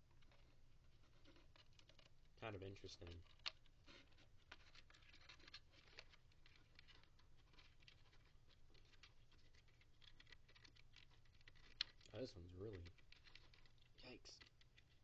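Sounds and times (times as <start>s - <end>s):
twist ties scratching and clicking: 0.0s - 15.0s.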